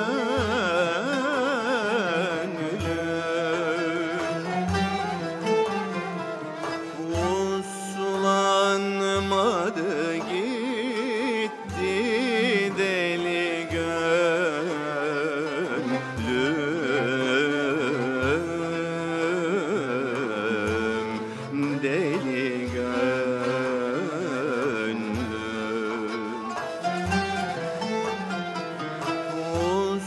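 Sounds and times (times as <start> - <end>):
ornamented melody with vibrato: 0.0 - 30.0.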